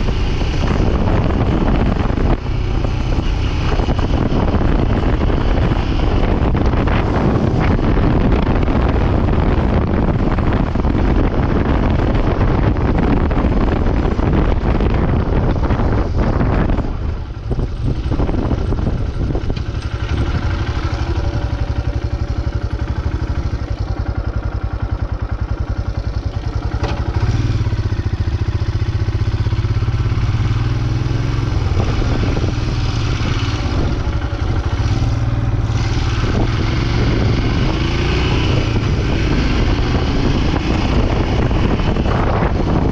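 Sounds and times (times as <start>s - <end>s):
motorcycle engine running: 0.0s - 42.9s
wind buffeting microphone: 0.0s - 42.9s.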